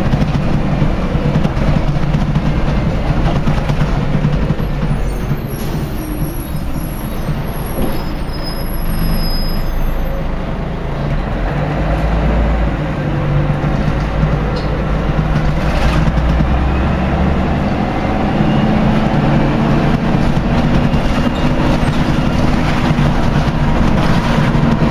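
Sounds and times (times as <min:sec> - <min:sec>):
bus diesel engine driving: 0:00.0 - 0:24.9.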